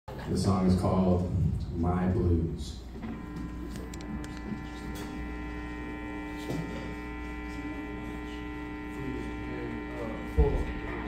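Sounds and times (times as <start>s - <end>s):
amplifier mains hum and buzz: 0.1s - 11.0s.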